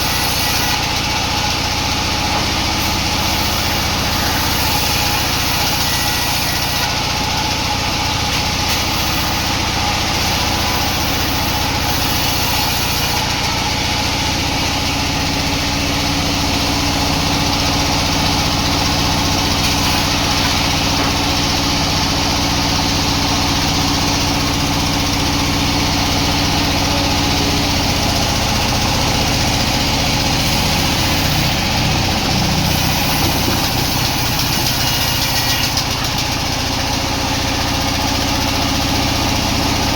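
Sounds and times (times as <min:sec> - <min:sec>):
sawmill motor hum: 0:00.0 - 0:39.9.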